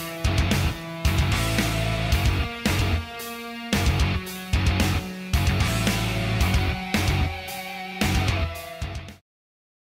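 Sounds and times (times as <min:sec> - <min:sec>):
rock music with guitar: 0:00.0 - 0:09.2.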